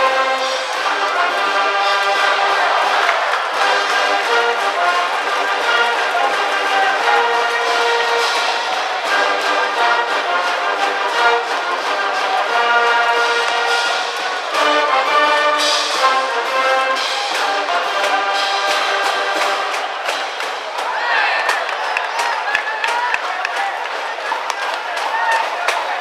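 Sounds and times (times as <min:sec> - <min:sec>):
trumpets and trombones melody: 0:00.0 - 0:21.4
brass band playing: 0:00.0 - 0:26.0.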